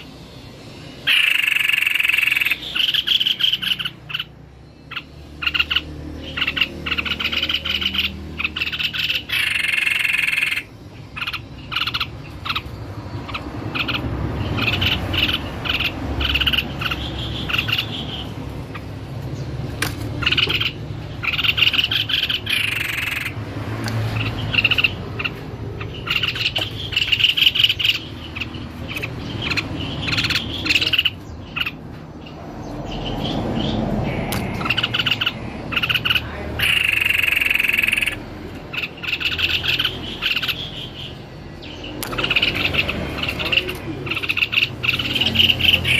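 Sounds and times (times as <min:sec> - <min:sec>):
babbler bird singing: 0:00.0 - 0:45.9.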